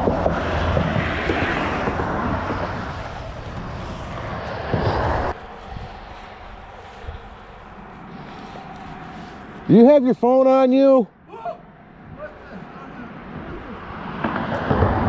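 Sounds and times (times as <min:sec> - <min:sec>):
highway traffic rushing: 0:00.0 - 0:15.0.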